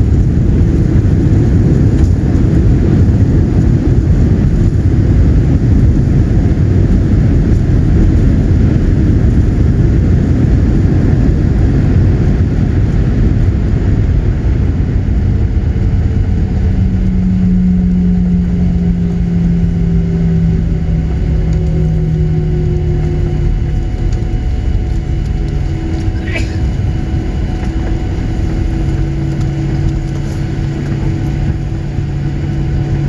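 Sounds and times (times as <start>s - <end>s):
jet engines and runway rumble: 0.0s - 33.0s.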